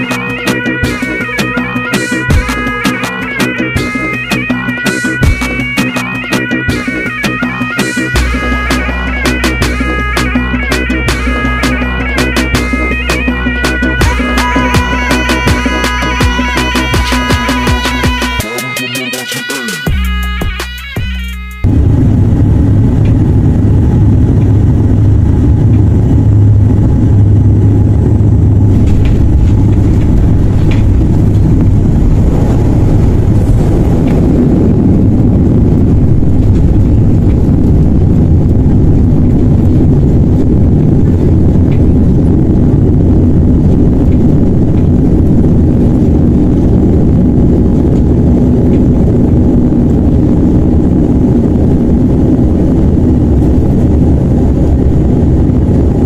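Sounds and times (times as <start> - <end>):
higher hum: 0.0 - 56.0
propeller engines droning: 0.0 - 56.0.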